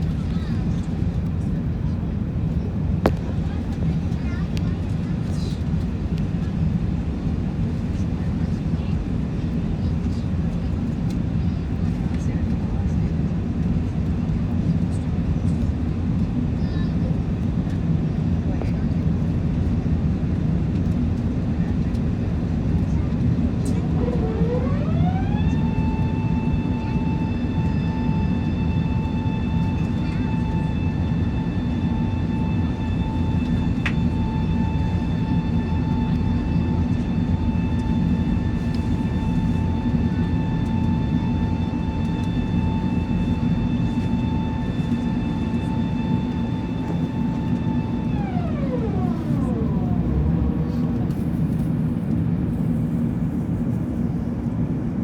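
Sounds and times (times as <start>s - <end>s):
aircraft cabin rumble: 0.0s - 55.0s
high jet engine whine: 0.0s - 55.0s.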